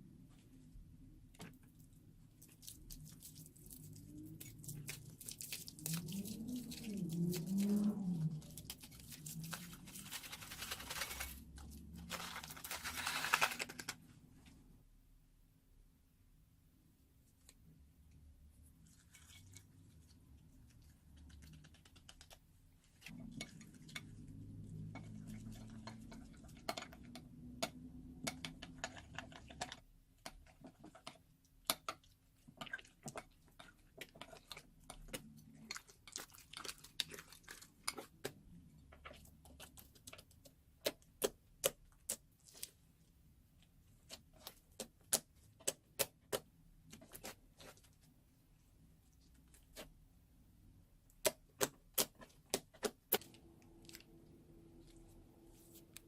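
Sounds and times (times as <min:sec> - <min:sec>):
slime squishing: 0:01.4 - 0:14.0, 0:18.7 - 0:50.0, 0:51.0 - 0:56.0.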